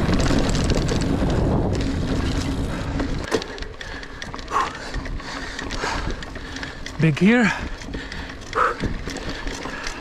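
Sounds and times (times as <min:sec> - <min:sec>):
bike tyre and frame rattle: 0:00.0 - 0:10.0
wind rushing over microphone: 0:00.0 - 0:10.0.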